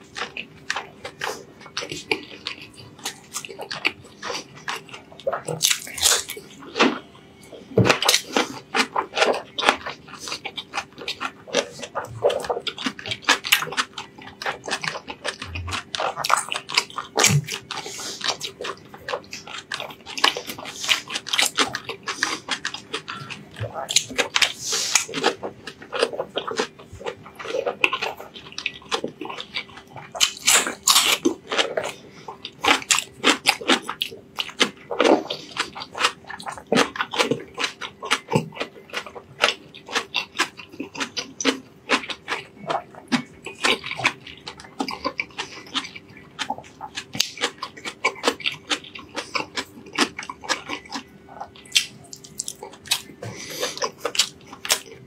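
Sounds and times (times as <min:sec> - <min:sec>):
faint steady hum: 0:00.0 - 0:55.0
man chewing food: 0:00.0 - 0:55.0.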